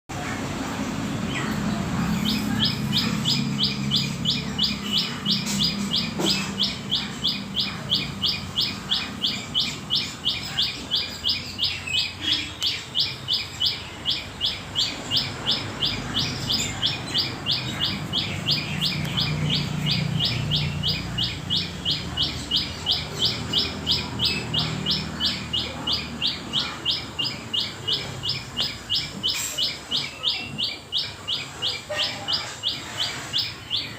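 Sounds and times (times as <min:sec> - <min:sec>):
bird chirping rapidly: 0:01.1 - 0:33.9.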